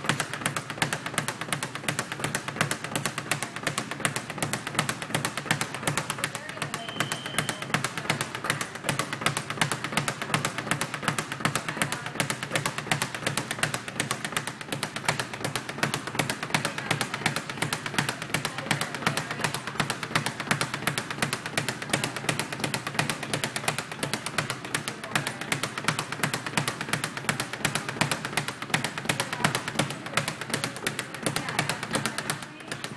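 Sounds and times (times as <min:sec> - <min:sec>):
speed bag being punched: 0:00.0 - 0:32.9.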